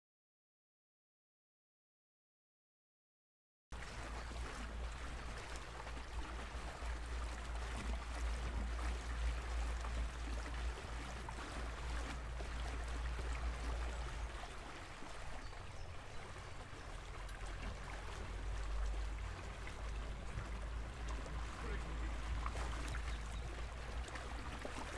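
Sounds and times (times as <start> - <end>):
water splashing against boat hull: 3.8 - 24.9.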